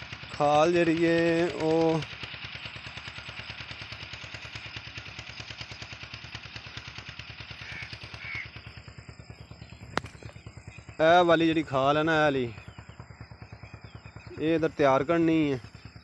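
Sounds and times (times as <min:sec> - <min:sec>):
engine chugging: 0:00.0 - 0:16.0.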